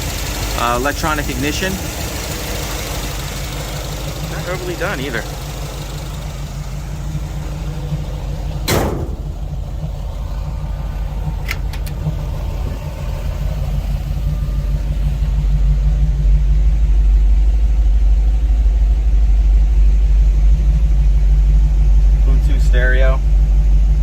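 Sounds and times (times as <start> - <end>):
deep rumble: 0.0 - 24.0
engine idling: 0.0 - 24.0.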